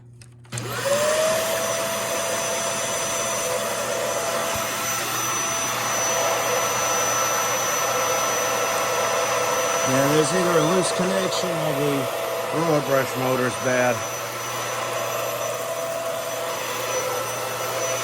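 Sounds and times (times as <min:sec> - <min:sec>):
vacuum cleaner motor whining: 0:00.3 - 0:18.0.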